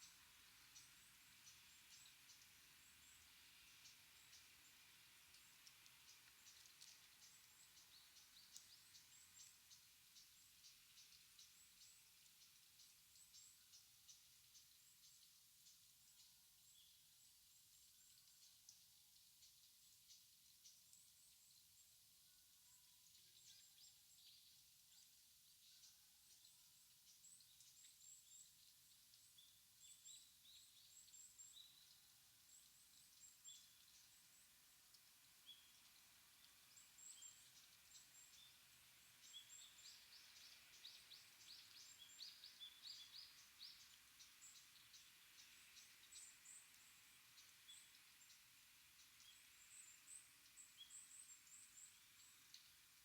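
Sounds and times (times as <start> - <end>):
faint forest ambience hiss: 0.0 - 53.0
small birds chirping: 0.0 - 53.0.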